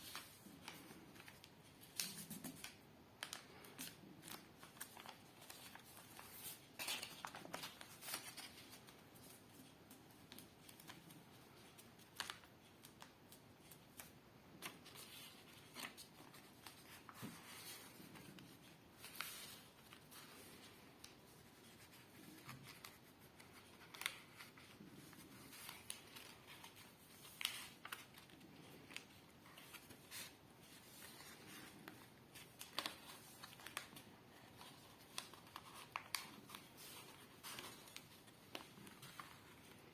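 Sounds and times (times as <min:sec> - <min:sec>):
paper being folded and creased: 0:00.0 - 0:39.9.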